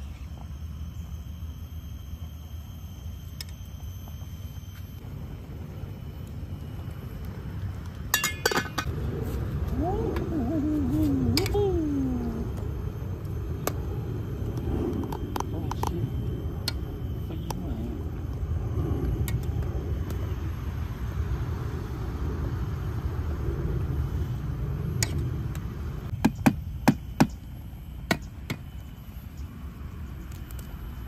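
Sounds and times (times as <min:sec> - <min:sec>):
stove low rumble: 0:00.0 - 0:31.0.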